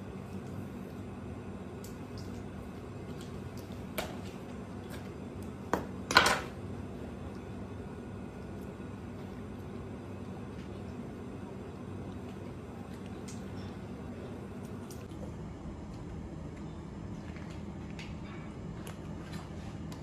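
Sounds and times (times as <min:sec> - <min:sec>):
kitchen hum: 0:00.0 - 0:20.0.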